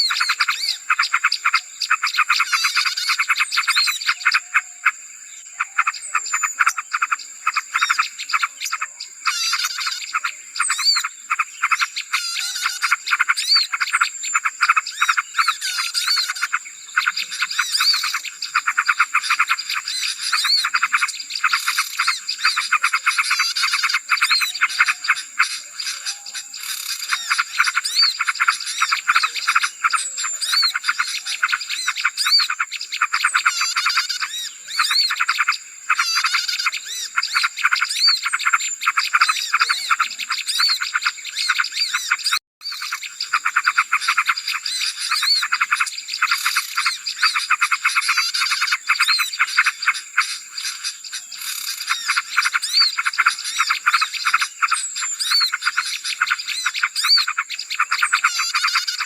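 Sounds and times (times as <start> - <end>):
songbirds chattering and chirping: 0.0 - 59.0.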